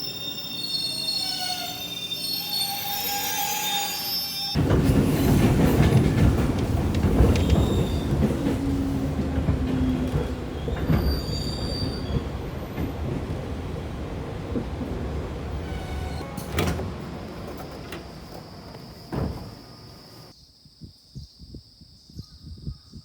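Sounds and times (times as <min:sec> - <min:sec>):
train wheels squealing: 0:00.0 - 0:13.9, 0:15.1 - 0:20.3
train rumbling on rails: 0:00.0 - 0:20.3.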